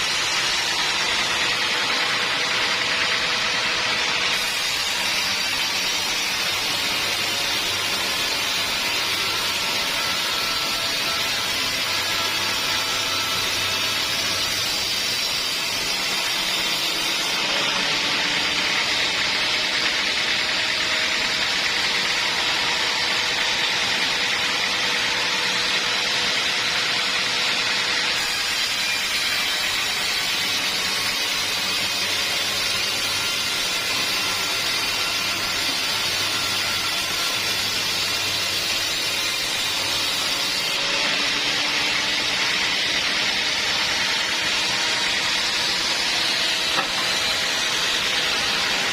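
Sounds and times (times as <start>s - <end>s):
saw blade whining through log: 0.0s - 48.9s.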